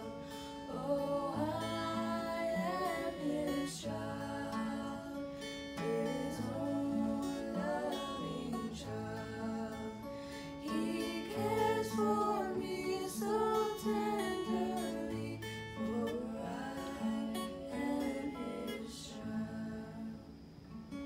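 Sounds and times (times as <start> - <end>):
group singing gospel song: 0.0 - 20.2
strummed acoustic guitar: 0.0 - 21.0.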